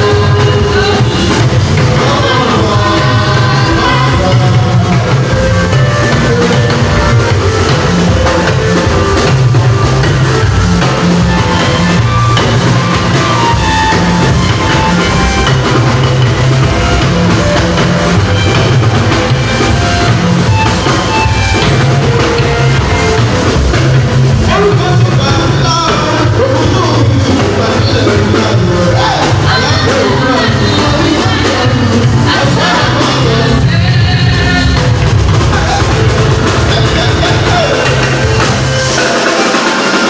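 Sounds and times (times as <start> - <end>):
drum beat: 0.0 - 40.0
electronic keyboard: 0.0 - 40.0
strong bass notes: 0.0 - 40.0.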